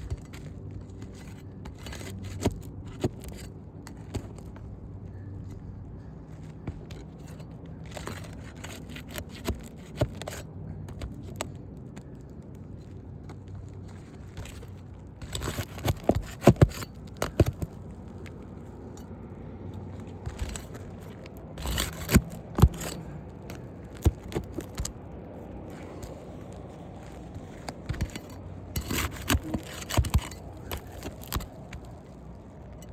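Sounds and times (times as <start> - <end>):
roof shingle scraping and crackling: 0.0 - 32.9.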